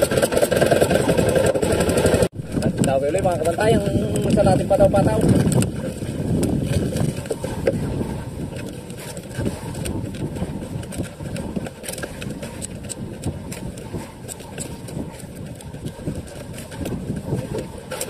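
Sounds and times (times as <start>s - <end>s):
boat engine idling: 0.0s - 18.0s
sea noise: 0.0s - 18.0s
wind: 0.0s - 18.0s.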